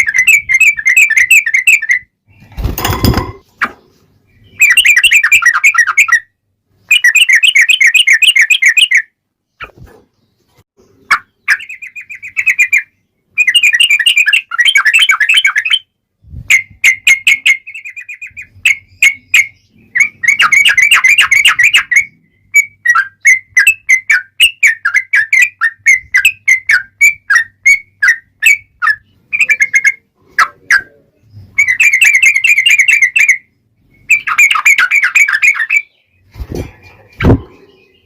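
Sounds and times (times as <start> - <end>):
bird song chattering trills: 0.0 - 38.0.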